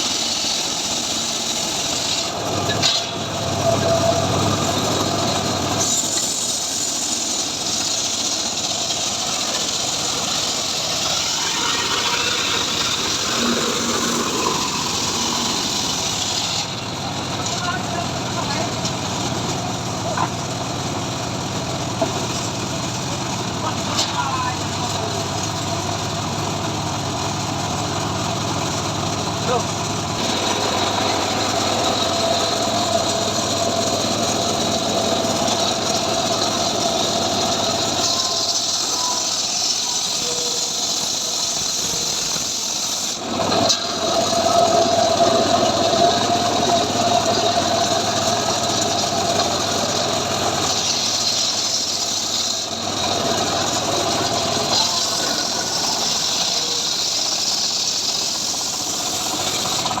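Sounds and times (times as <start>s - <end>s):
sawmill engine humming: 0.0s - 60.0s.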